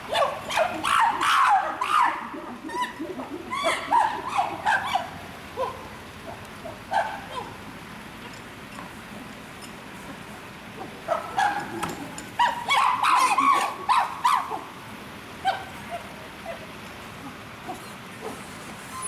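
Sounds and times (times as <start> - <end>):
chimpanzees calling: 0.0 - 19.0.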